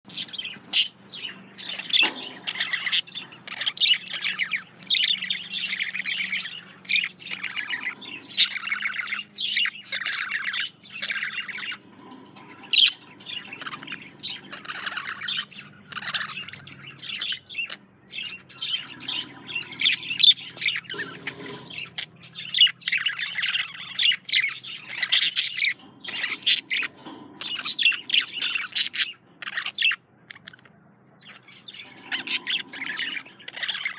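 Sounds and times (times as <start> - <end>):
budgerigar warbling and chattering: 0.1 - 33.9.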